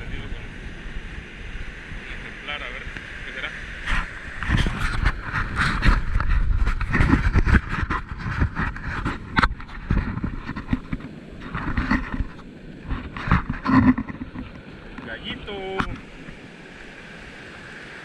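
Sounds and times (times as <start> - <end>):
wind buffeting microphone: 0.0 - 17.0
surf washing: 0.0 - 18.0.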